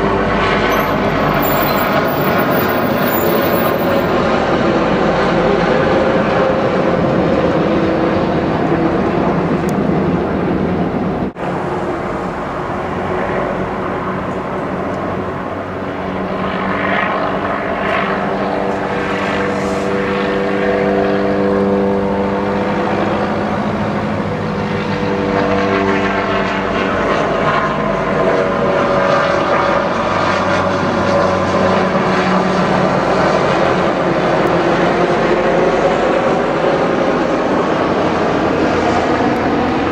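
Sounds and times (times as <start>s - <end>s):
helicopters flying low overhead: 0.0s - 39.9s.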